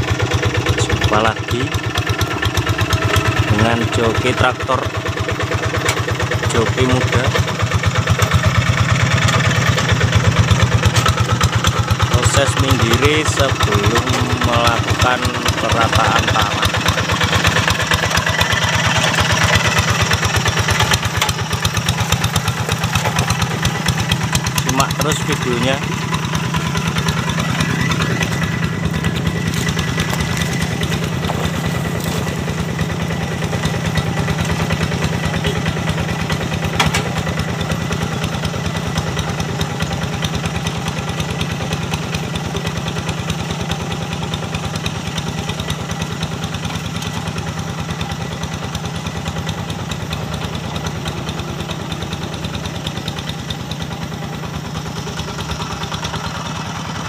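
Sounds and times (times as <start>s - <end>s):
diesel hand tractor running: 0.0s - 57.0s.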